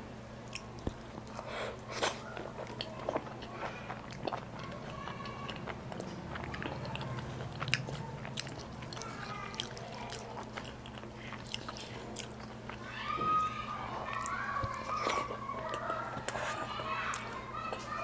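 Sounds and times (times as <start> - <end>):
chewing and biting food: 0.4 - 18.0.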